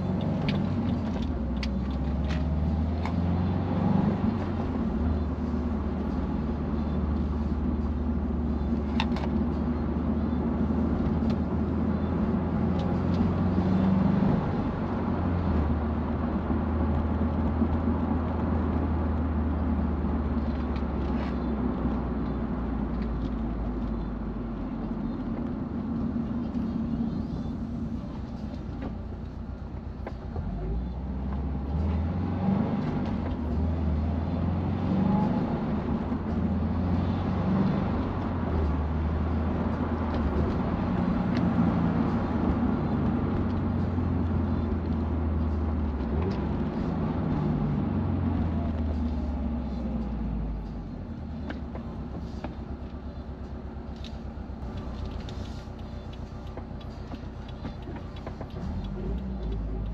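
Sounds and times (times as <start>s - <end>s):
car engine driving slowly: 0.0s - 59.9s.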